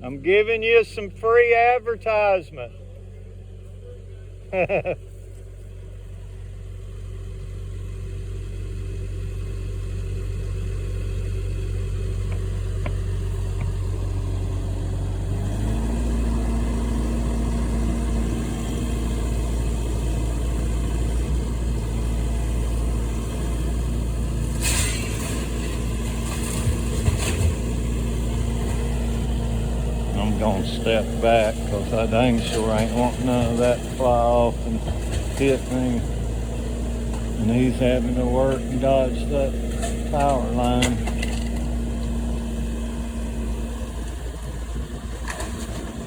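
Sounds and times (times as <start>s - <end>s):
demolition machine engine revving: 4.0s - 46.0s.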